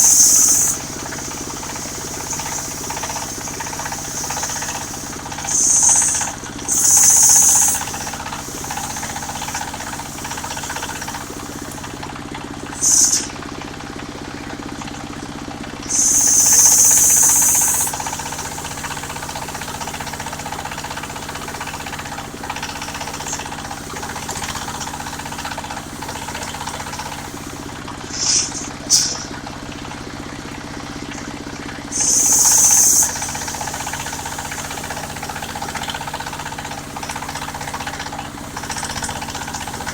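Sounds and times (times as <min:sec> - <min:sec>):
high hissing bursts: 0:00.0 - 0:13.4, 0:15.9 - 0:29.5, 0:31.9 - 0:39.9
sawmill engine droning: 0:00.0 - 0:39.9.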